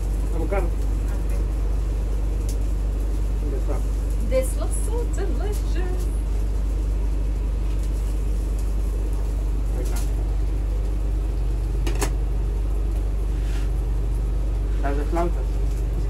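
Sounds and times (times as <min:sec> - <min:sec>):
kitchen machinery hum: 0:00.0 - 0:16.0.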